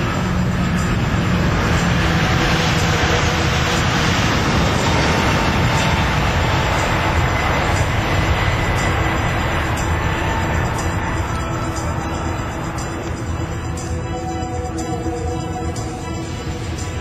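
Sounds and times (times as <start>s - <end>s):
jet engines roaring at takeoff: 0.0s - 17.0s.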